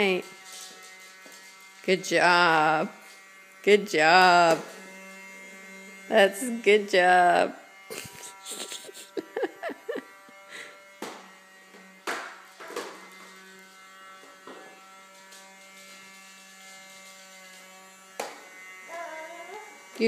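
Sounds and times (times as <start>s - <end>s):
vacuum cleaner motor buzzing: 0.0s - 20.0s.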